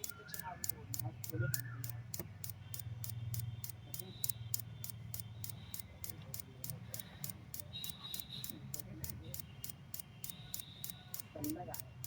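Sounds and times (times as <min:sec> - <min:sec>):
fast mechanical ticking: 0:00.0 - 0:12.0.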